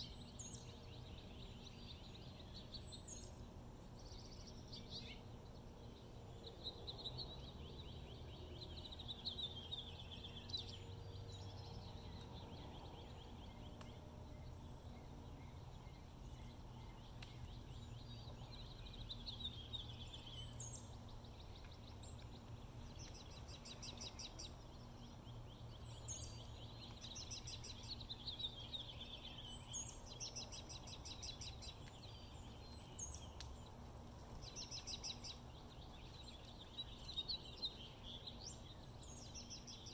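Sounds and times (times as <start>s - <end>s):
small birds trilling and chirping: 0.0s - 39.9s.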